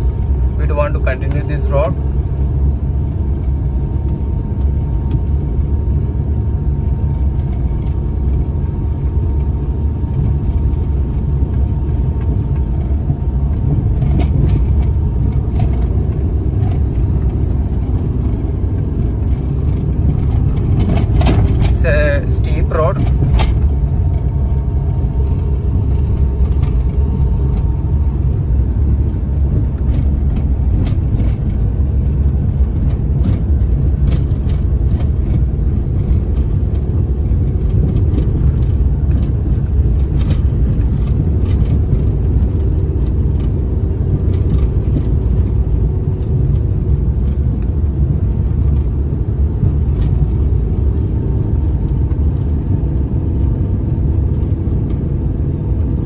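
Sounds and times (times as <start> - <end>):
car engine rumble from inside cabin: 0.0 - 56.0
knocks and rattles over rough road: 0.0 - 56.0.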